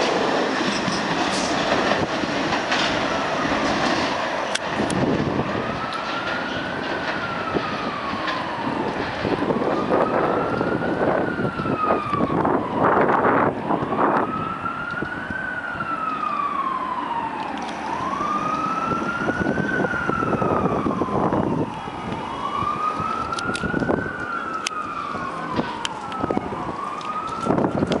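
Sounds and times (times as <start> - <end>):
emergency vehicle siren wailing: 0.0 - 28.0
subway train rumbling on track: 0.0 - 28.0.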